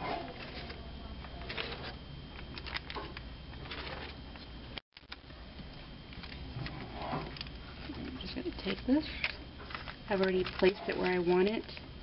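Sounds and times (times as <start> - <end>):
paper rustling: 0.0 - 5.2, 6.1 - 11.8.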